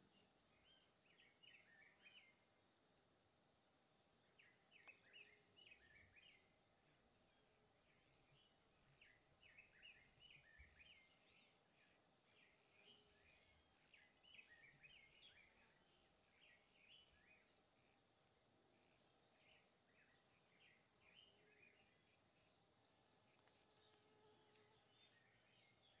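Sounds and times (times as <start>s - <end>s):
faint bird chirps: 0.0s - 2.5s, 4.2s - 26.0s.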